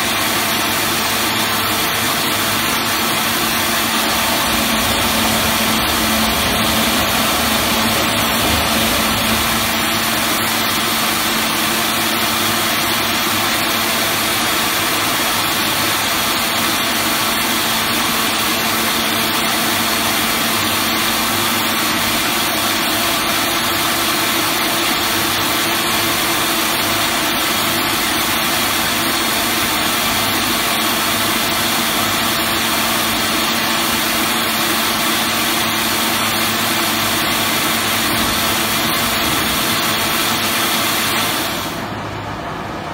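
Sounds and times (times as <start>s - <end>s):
machinery humming and hissing: 0.2s - 14.5s, 18.3s - 42.9s.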